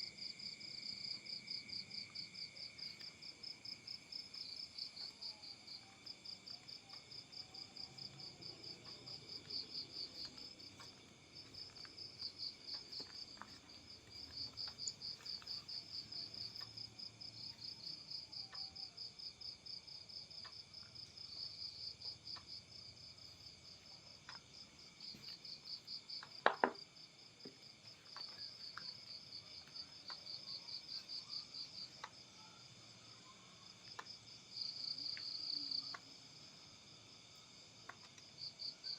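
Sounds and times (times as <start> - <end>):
insects chirping trill: 0.0 - 38.9.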